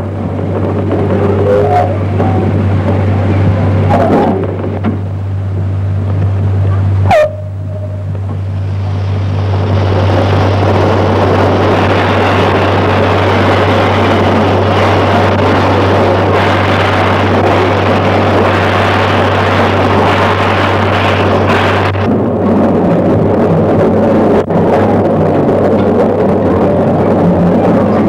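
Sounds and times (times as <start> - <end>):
low hum: 0.0 - 28.0
steam train rushing noise: 0.0 - 28.0.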